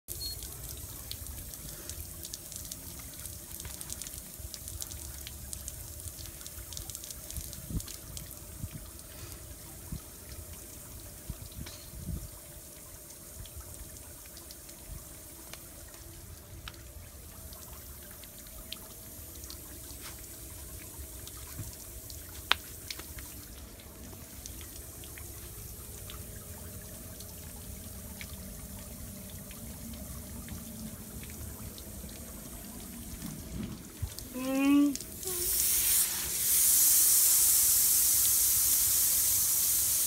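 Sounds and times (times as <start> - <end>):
water drip clicks: 0.1 - 35.3
water trickling from spigot: 0.1 - 40.0.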